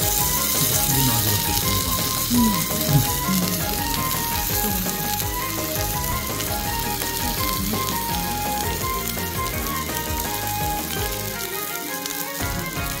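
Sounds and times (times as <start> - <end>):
beef sizzling on hot plate: 0.0 - 13.0.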